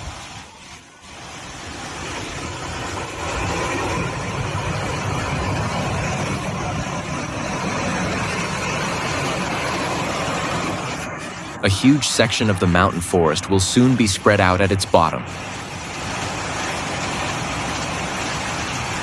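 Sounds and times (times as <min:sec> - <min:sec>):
landslide rumbling: 0:00.0 - 0:19.0.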